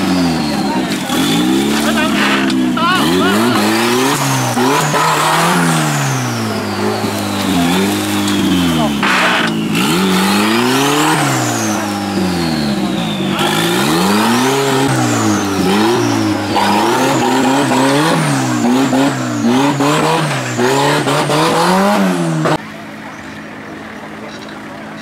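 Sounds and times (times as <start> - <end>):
buggy engine revving hard: 0.0 - 23.1
high whine: 0.3 - 21.6.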